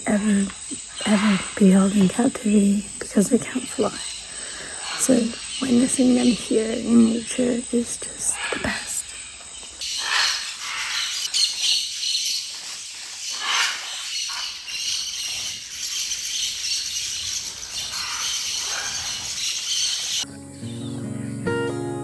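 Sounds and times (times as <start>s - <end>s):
macaws squawking: 0.0s - 20.8s.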